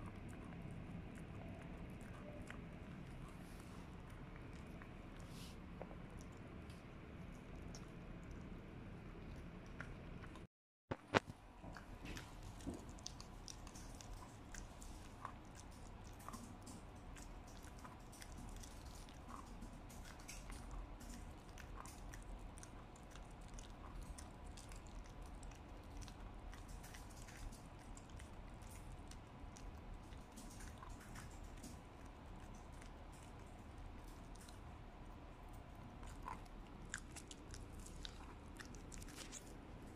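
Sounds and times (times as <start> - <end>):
dog gnawing a chew: 0.0 - 10.5, 11.1 - 39.9.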